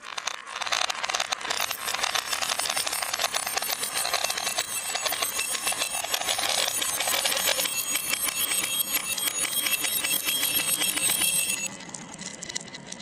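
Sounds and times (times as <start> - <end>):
marbles clattering down a track: 0.0 - 13.0.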